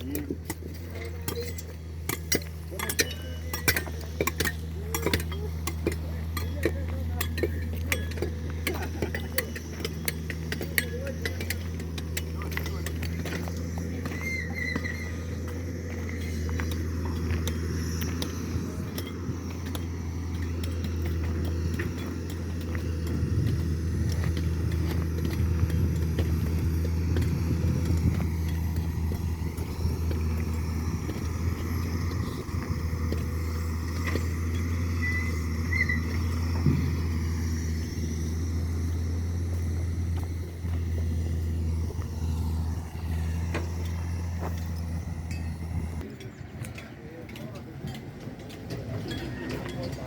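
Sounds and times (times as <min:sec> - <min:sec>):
large engine droning: 0:00.0 - 0:50.0.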